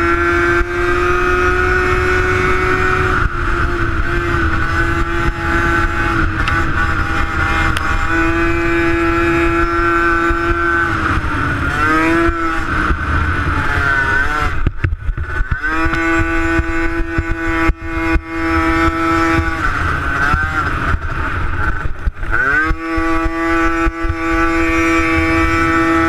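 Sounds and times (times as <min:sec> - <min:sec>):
motorcycle engine at high revs: 0:00.0 - 0:26.0
wind rumble: 0:00.0 - 0:26.0.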